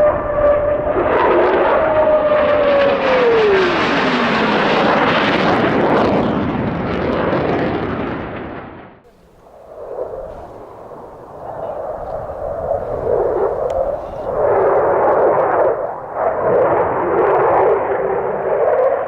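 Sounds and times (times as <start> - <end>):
fighter jet roar passing low: 0.0 - 19.0.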